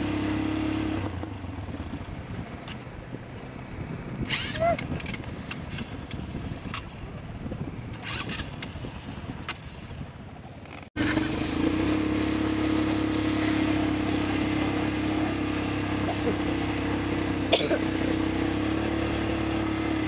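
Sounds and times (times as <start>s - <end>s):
atv engines rumbling: 0.0s - 20.0s.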